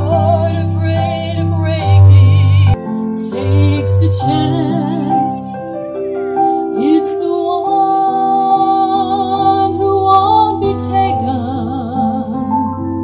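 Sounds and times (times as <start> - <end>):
woman singing into a microphone: 0.0 - 5.8, 6.6 - 13.0
electronic keyboard chords: 0.0 - 13.0.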